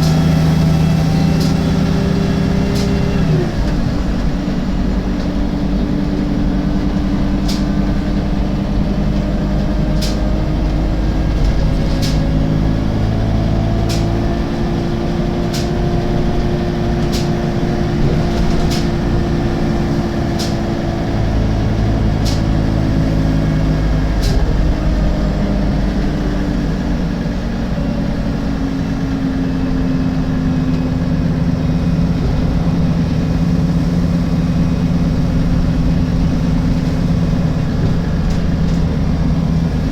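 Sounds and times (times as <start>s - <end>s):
bus engine running: 0.0s - 39.9s
sharp clicks from bus: 0.0s - 39.9s.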